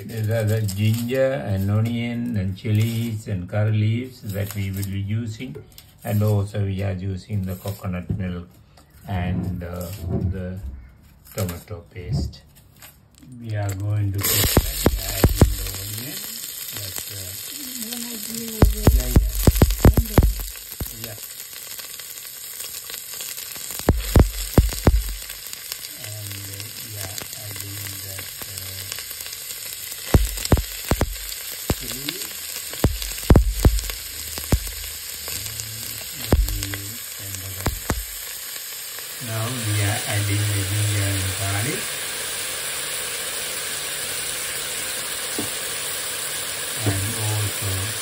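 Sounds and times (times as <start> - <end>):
onion sizzling in hot oil: 0.0 - 5.1, 13.7 - 48.0.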